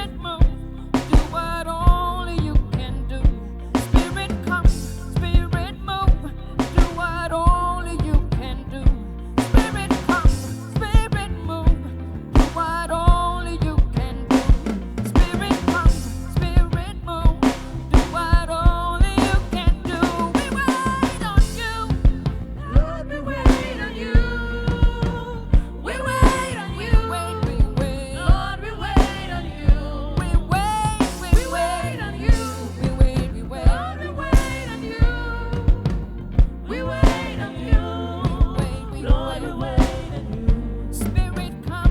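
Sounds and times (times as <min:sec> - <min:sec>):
drum kit steady beat: 0:00.0 - 0:41.9.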